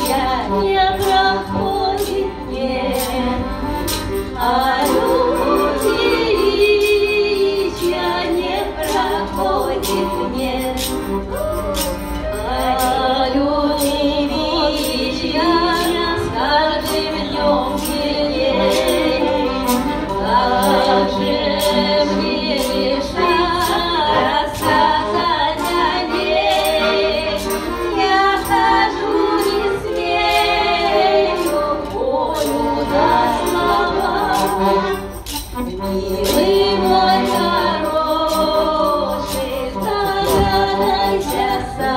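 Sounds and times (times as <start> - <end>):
accordion: 0.0 - 41.9
tambourine beat: 0.0 - 41.9
two women singing: 0.0 - 41.9.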